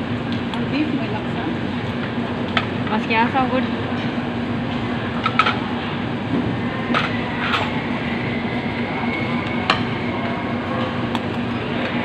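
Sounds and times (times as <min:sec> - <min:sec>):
restaurant hum and rumble: 0:00.0 - 0:12.0.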